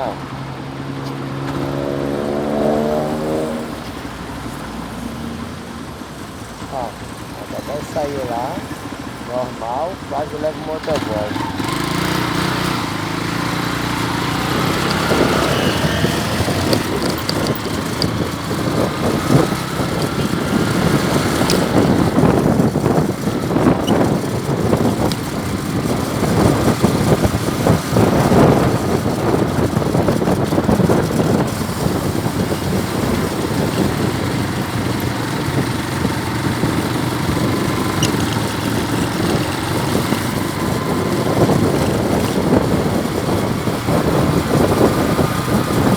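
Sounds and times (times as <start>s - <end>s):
motorcycle engine running: 0.0s - 45.9s
road noise: 0.0s - 45.9s.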